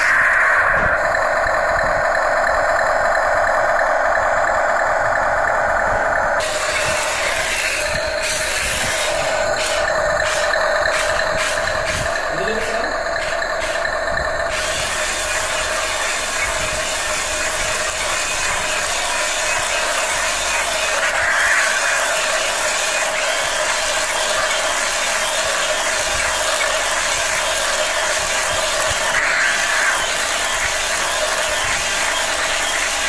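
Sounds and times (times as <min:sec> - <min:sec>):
toy tank motors whirring and rattling: 0:00.0 - 0:33.0.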